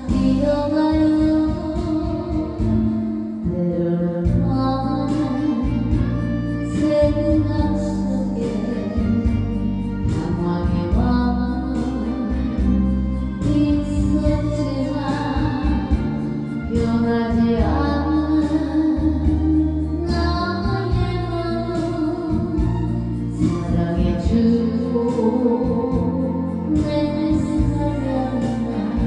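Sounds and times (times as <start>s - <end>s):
band backing music: 0.0s - 29.0s
woman singing: 0.0s - 29.0s.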